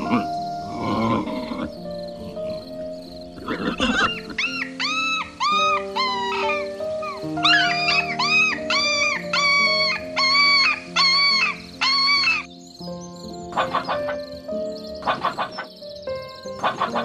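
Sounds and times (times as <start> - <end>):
animal calling: 0.0 - 12.5, 13.4 - 17.0
background music: 0.0 - 17.0.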